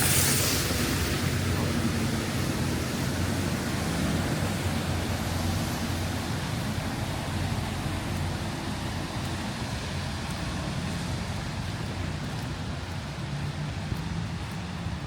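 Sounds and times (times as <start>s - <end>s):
low rumble of road traffic: 0.0s - 15.0s
steady rain falling: 0.0s - 15.0s.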